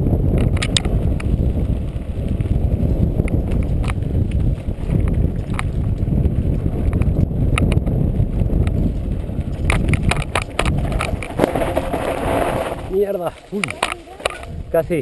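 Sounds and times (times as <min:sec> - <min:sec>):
tyres and wind rumble: 0:00.0 - 0:15.0
bike rattling over rocks: 0:00.2 - 0:14.6.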